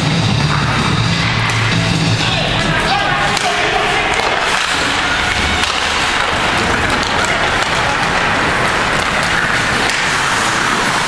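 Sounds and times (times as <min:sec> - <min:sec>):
skates on ice: 0:00.0 - 0:11.0
spectators: 0:00.0 - 0:11.0
sharp clicks of sticks or puck: 0:00.3 - 0:02.0, 0:02.6 - 0:11.0.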